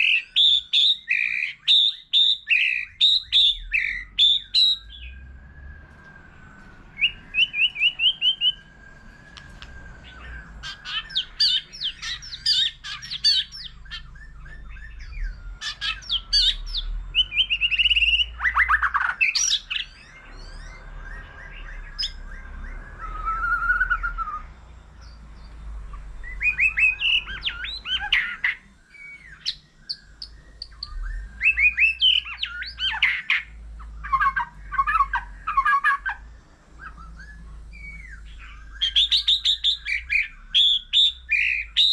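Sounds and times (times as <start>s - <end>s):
bird singing whistles and trills: 0.0s - 41.9s.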